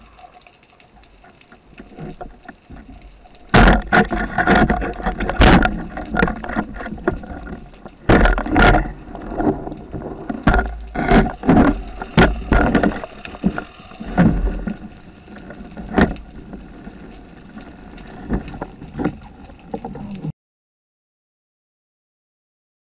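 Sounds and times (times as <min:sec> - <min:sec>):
water rushing underwater: 0:00.0 - 0:20.3.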